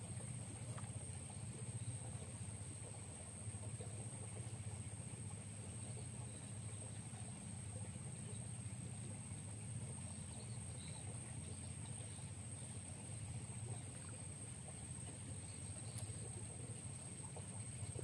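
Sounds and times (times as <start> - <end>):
distant motor drone: 0.0 - 18.0.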